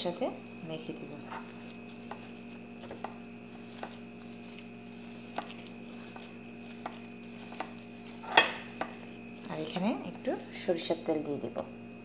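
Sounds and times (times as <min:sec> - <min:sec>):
faint steady hum: 0:00.0 - 0:12.0
hand squishing mashed potato: 0:00.4 - 0:10.9.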